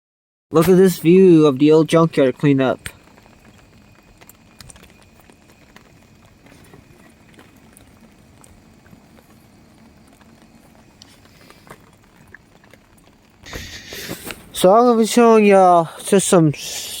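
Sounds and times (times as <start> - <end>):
low background hiss: 0.6 - 17.0.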